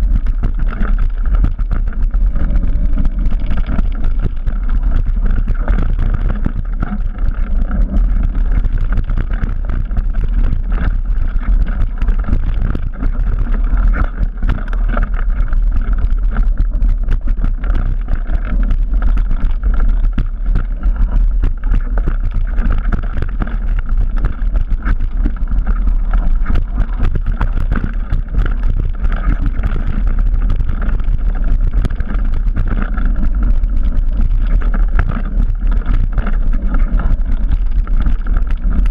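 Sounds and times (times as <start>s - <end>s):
bike rattling and knocking: 0.0s - 38.9s
tyres rumbling on dirt: 0.0s - 38.9s
wind buffeting microphone: 0.0s - 38.9s.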